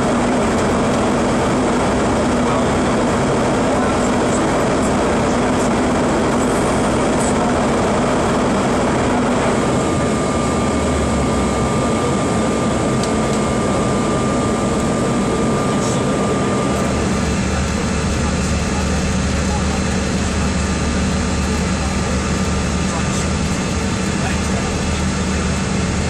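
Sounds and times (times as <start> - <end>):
jet cabin air rush and engine drone: 0.0 - 26.0
thin steady whine: 0.0 - 26.0.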